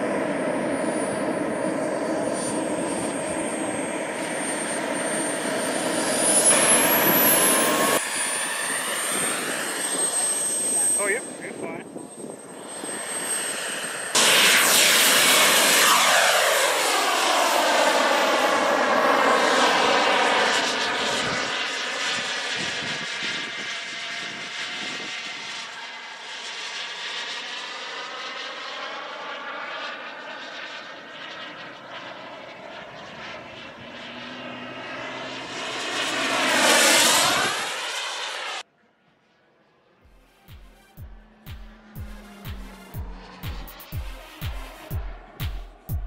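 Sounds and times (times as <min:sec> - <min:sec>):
model jet engine passing: 0:00.0 - 0:45.9.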